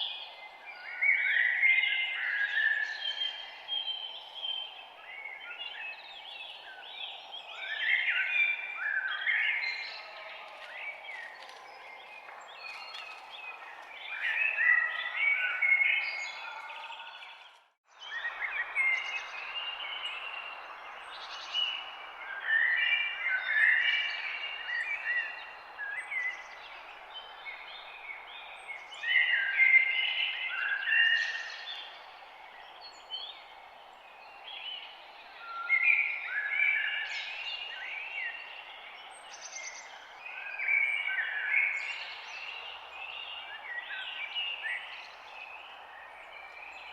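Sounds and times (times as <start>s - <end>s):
songbirds singing and chirping: 0.0s - 46.9s.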